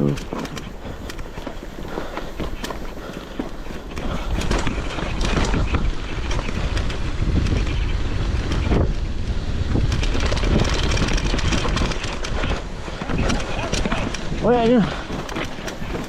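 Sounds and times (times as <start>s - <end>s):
mountain bike clattering downhill: 0.0s - 16.0s
wind buffeting microphone: 0.0s - 16.0s.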